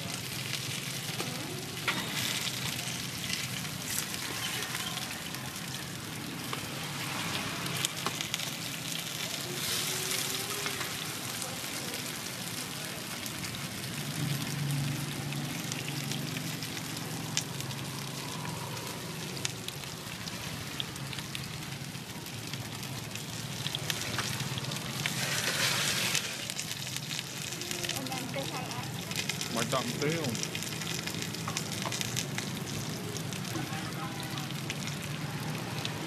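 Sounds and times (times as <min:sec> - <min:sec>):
rice cakes sizzling in oil: 0:00.0 - 0:36.0.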